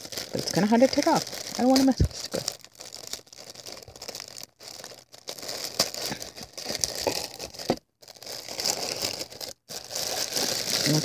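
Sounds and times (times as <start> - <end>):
metallic foil crinkling: 0.0 - 11.0.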